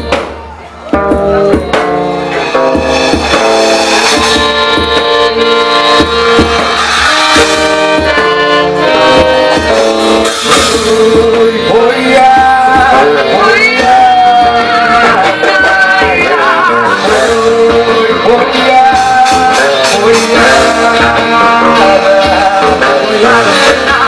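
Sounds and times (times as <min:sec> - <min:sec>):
accordion-led dance music: 0:00.0 - 0:24.0.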